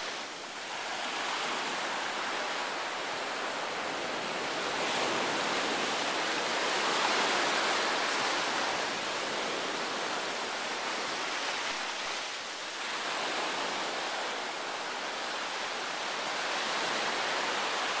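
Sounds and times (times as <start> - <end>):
waves washing on beach: 0.0 - 18.0.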